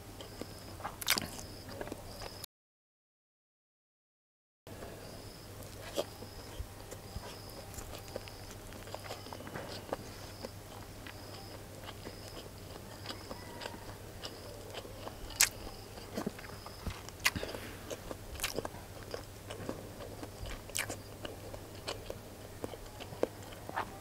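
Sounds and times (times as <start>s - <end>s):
person chewing food: 0.2s - 2.4s, 5.6s - 24.0s.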